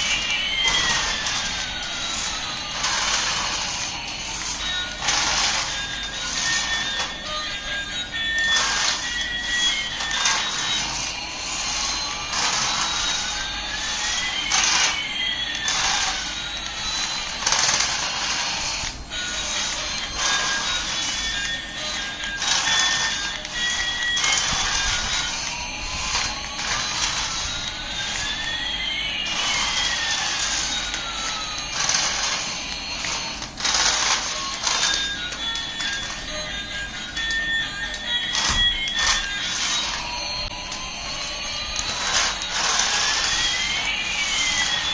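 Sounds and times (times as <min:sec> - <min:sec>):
toy whirring with whining tones: 0:00.0 - 0:44.9.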